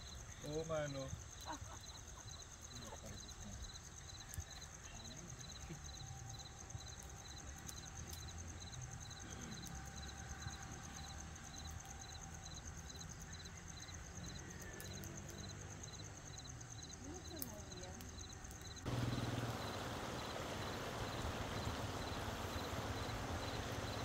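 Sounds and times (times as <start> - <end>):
campfire crackles: 0.0 - 24.0
high insect trill: 0.0 - 24.0
insects chirping: 0.0 - 24.0.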